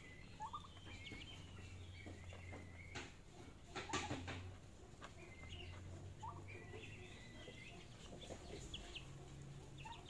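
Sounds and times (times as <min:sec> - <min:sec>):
young turkeys peeping: 0:00.0 - 0:10.0.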